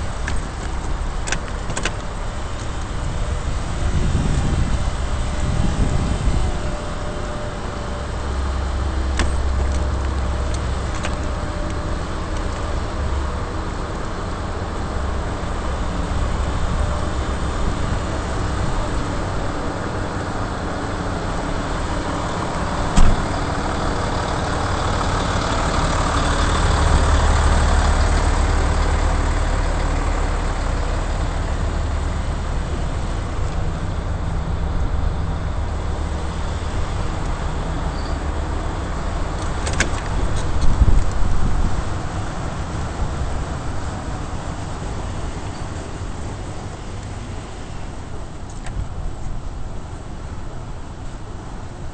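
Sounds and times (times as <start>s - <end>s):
vehicle on wet pavement: 0.0s - 51.9s.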